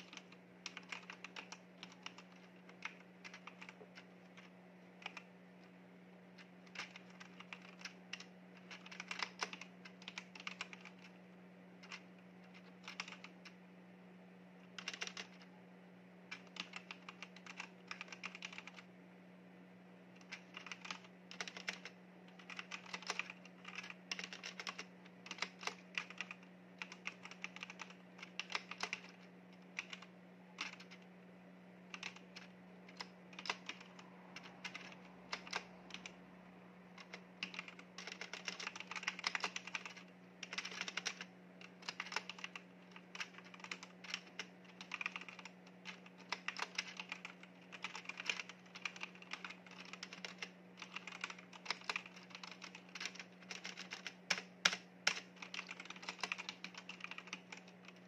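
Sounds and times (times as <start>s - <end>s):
typing on mechanical keyboard: 0.0s - 5.3s, 6.4s - 11.2s, 11.8s - 13.6s, 14.7s - 15.4s, 16.3s - 18.9s, 20.2s - 31.0s, 31.9s - 36.2s, 37.0s - 58.0s
faint low hum: 0.0s - 58.0s.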